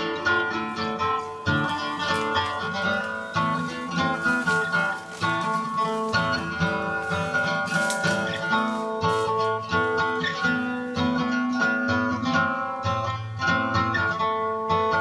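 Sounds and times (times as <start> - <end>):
acoustic guitar plucked notes: 0.0 - 15.0.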